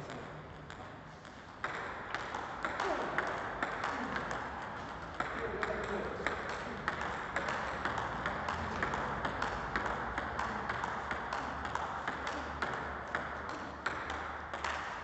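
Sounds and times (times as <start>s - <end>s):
ball bouncing on table: 0.0s - 14.9s
table tennis ball hits: 0.0s - 15.0s.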